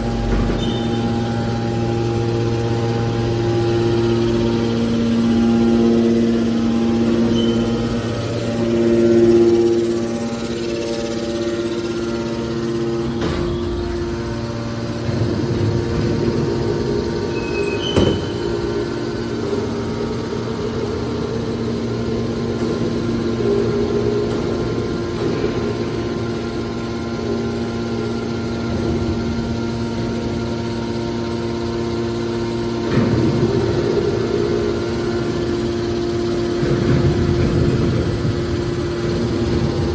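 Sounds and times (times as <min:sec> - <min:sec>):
hydraulic power unit humming: 0:00.0 - 0:39.9.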